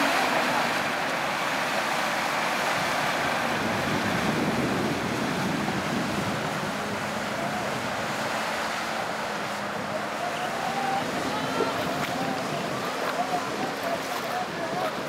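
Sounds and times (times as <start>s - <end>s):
diesel engine under load: 0.0s - 15.0s
mud and water churning: 0.0s - 15.0s.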